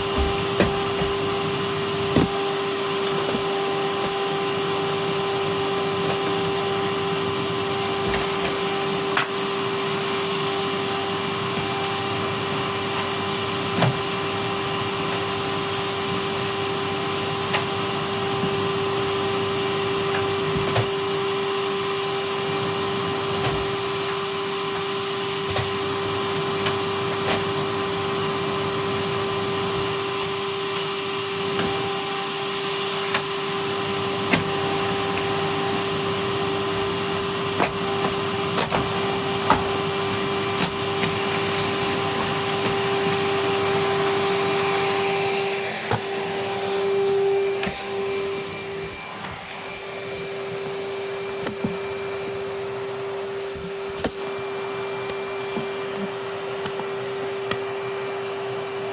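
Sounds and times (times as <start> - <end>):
vacuum cleaner whining hum: 0.0 - 58.9.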